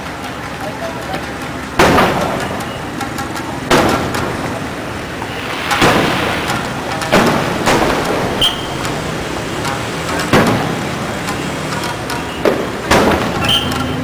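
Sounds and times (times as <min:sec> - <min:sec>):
fireworks booming: 0:01.7 - 0:11.2, 0:12.3 - 0:14.0.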